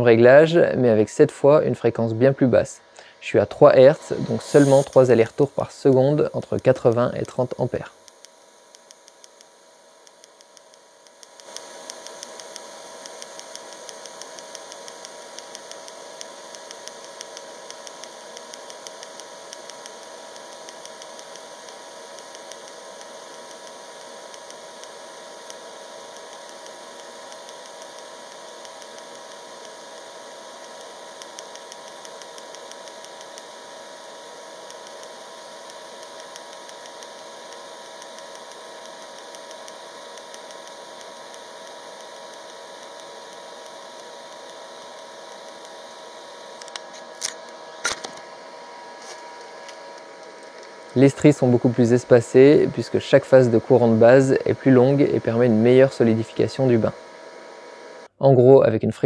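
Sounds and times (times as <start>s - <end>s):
welding arc hissing and ticking: 0.0s - 58.2s.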